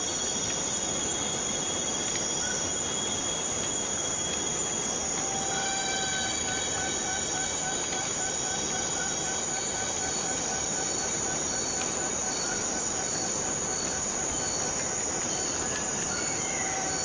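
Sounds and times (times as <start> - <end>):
faint high-pitched pulsing tones: 0.0 - 17.0
steady rainfall: 0.0 - 17.0.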